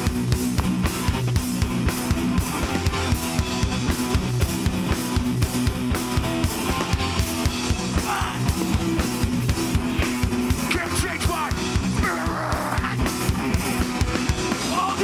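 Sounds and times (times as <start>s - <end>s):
bass guitar: 0.0s - 15.0s
distorted electric guitars: 0.0s - 15.0s
fast pounding drum kit: 0.0s - 15.0s.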